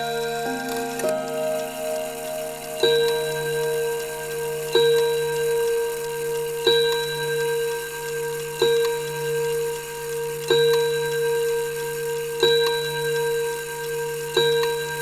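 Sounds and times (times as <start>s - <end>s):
clock ticking slowly: 0.0s - 15.0s.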